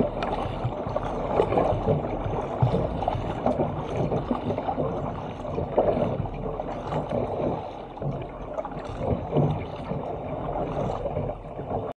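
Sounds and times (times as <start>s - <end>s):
water splashing along hull: 0.0s - 11.9s.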